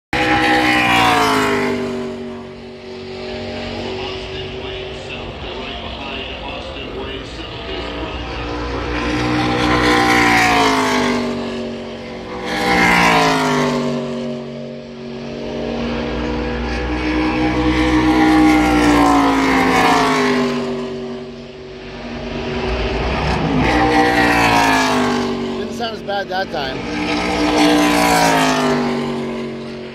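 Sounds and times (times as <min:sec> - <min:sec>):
race cars passing at full throttle: 0:00.2 - 0:29.9.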